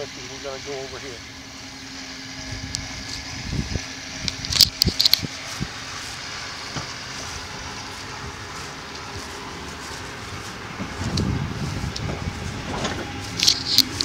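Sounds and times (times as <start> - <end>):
pickup engine idling: 0.0 - 14.0.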